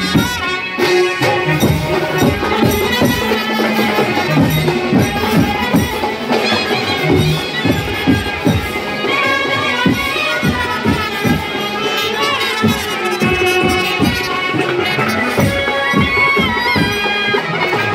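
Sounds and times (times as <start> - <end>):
brass horns: 0.0 - 17.9
steady drum beat: 0.0 - 17.9
trumpets playing melody: 0.0 - 17.9.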